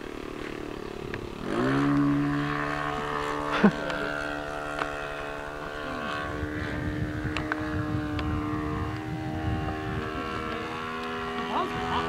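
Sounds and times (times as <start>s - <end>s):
model plane engine buzzing: 0.0s - 12.0s.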